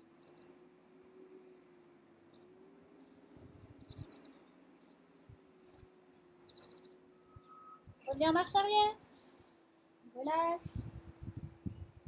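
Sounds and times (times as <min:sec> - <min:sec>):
distant songbird chirps: 0:00.0 - 0:09.8
faint steady hum: 0:00.0 - 0:12.0.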